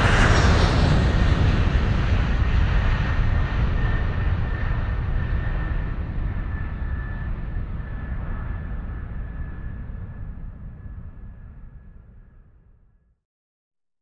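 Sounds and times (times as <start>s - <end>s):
jet airliner cabin engine noise: 0.0s - 12.6s.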